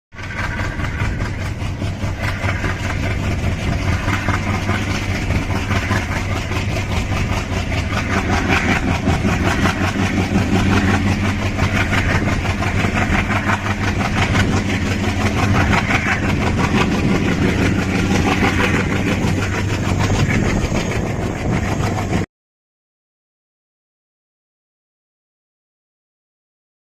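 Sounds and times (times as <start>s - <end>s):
train passing on track: 0.1s - 22.3s.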